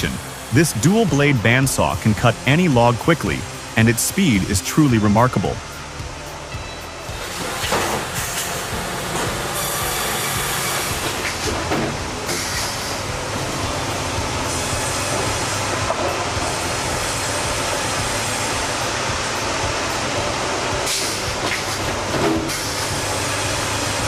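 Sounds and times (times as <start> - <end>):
sawmill bandsaw running: 0.0 - 24.0.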